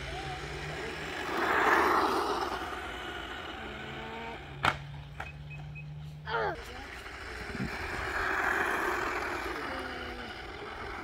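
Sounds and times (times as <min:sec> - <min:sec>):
remote-control car driving past: 0:00.0 - 0:06.0, 0:06.6 - 0:11.0.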